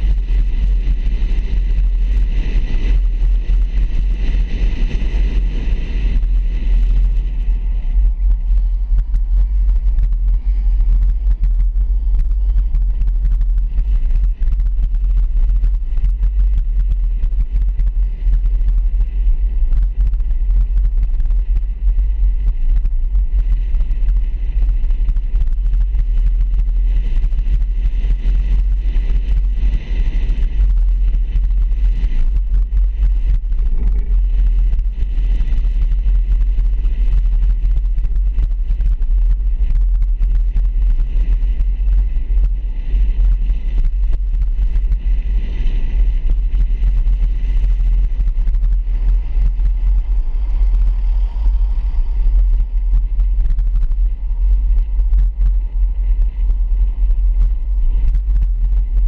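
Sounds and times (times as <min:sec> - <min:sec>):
vehicle driving slowly rumble: 0:00.0 - 0:59.0.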